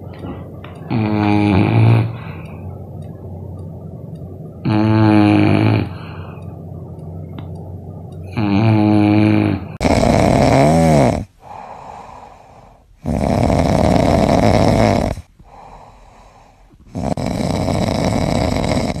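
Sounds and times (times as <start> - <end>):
dog snoring: 0.0 - 2.7, 4.6 - 6.4, 8.2 - 19.0
quiet breaths: 0.0 - 19.0.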